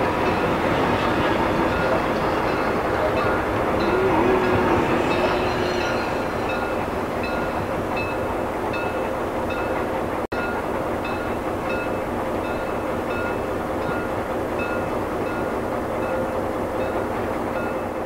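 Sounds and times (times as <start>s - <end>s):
train rolling rumble: 0.0s - 18.0s.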